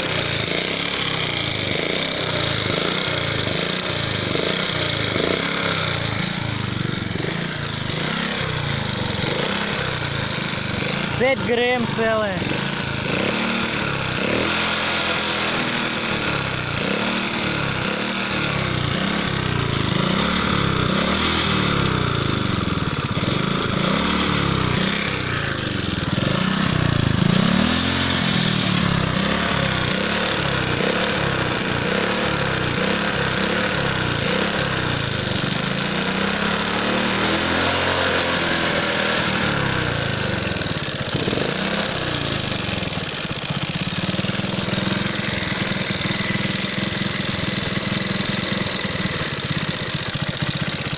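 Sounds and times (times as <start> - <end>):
moped engine knocking: 0.0 - 50.9.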